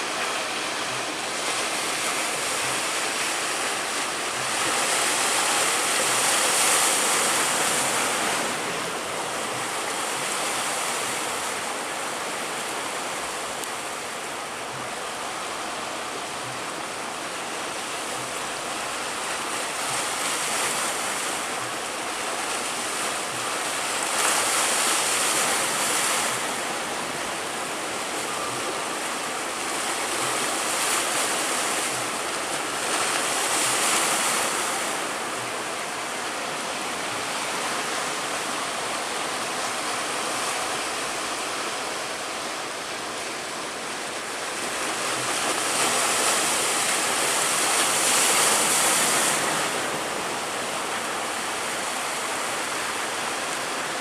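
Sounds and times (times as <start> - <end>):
surf breaking and washing: 0.0 - 54.0.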